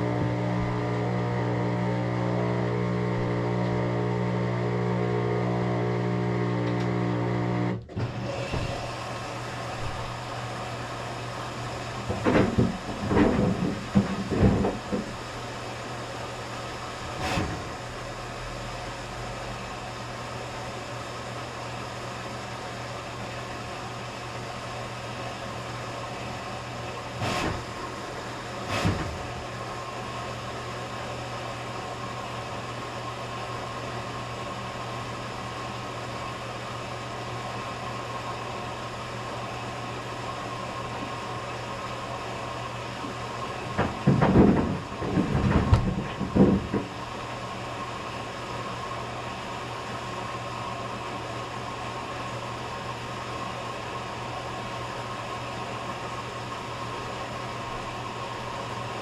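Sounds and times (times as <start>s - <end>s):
washing machine humming: 0.0s - 59.0s.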